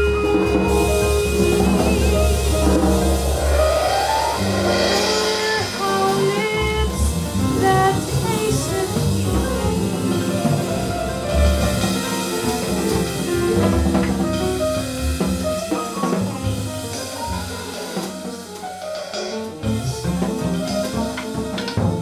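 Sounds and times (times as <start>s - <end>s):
double bass: 0.0s - 22.0s
drum kit: 0.0s - 22.0s
piano: 0.0s - 22.0s.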